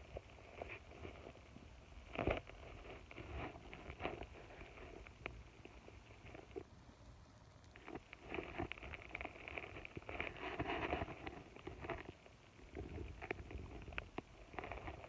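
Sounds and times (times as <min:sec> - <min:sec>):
hamster nibbling peanuts: 0:00.1 - 0:15.0.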